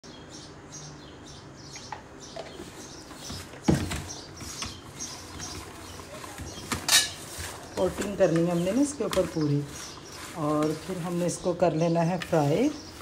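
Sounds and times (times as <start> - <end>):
small birds chirping: 0.0 - 13.0
hand tossing food in plastic bowl: 2.5 - 13.0.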